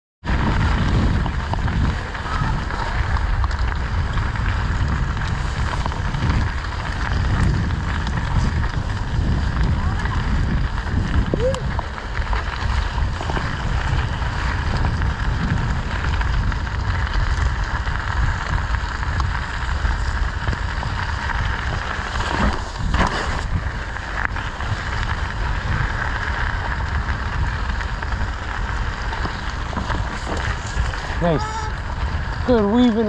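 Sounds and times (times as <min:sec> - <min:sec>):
bicycle tyres rolling on dirt: 0:00.2 - 0:33.0
wind buffeting microphone: 0:00.2 - 0:33.0.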